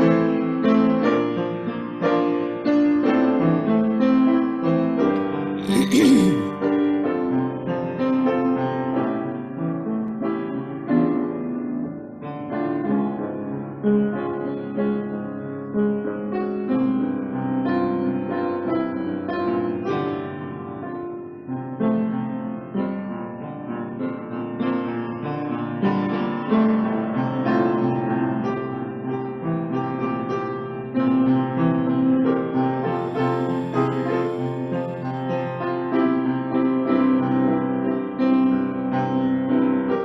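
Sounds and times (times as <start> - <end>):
solo piano: 0.0 - 5.6, 6.6 - 40.0.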